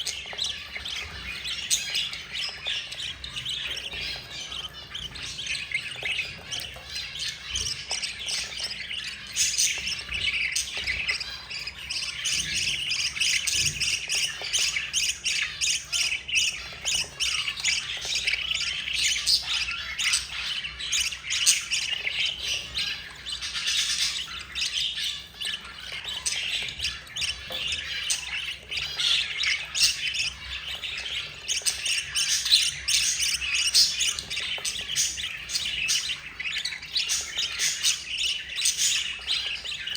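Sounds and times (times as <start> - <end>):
budgerigar chicks chirping: 0.0 - 39.9.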